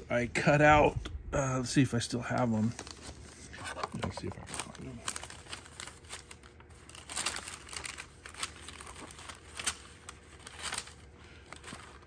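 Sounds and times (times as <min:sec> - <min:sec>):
papers rustling and crinkling: 0:02.2 - 0:12.0.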